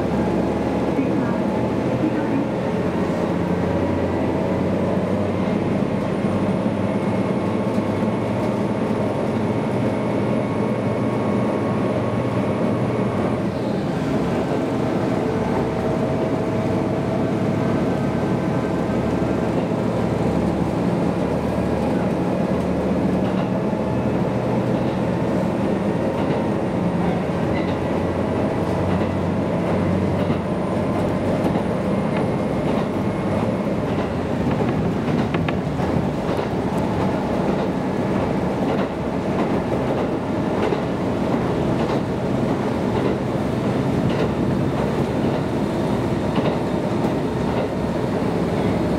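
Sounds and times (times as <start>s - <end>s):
diesel engine running: 0.0s - 48.9s
wheels rumbling on rails: 0.0s - 48.9s.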